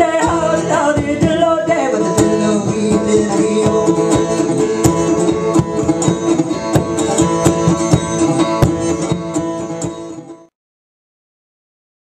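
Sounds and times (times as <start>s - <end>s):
bouzouki and acoustic guitar strumming: 0.0s - 10.5s.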